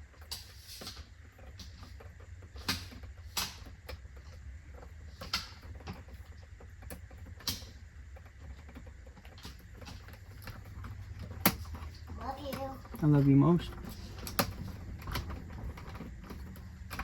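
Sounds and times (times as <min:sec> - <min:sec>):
small clicks and knocks: 0:00.1 - 0:17.0.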